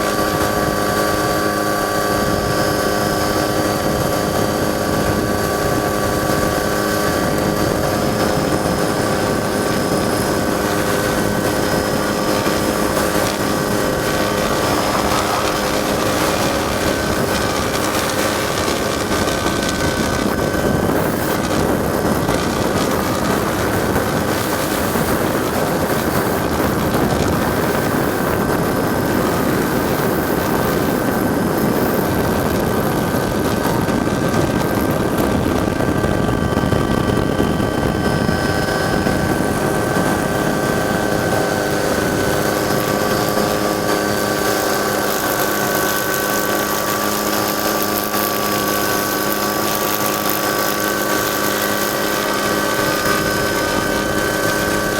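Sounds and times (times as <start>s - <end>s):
helicopter turbine and rotor rumble: 0.0s - 54.9s
steady whining tones: 0.0s - 54.9s.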